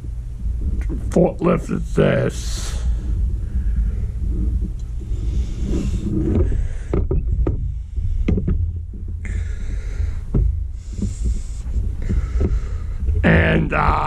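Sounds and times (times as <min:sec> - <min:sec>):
microphone handling rumble: 0:00.0 - 0:14.0.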